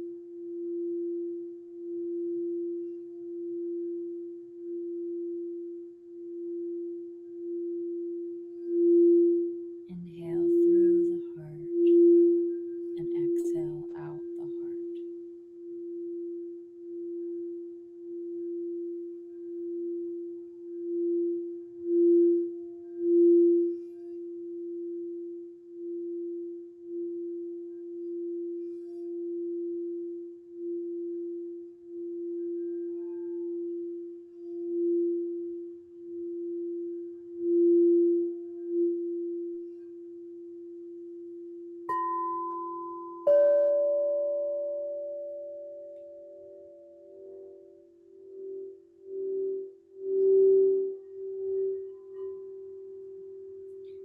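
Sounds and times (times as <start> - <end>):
singing bowl low tone: 0.0 - 54.0
higher struck bowl tones: 0.4 - 54.0.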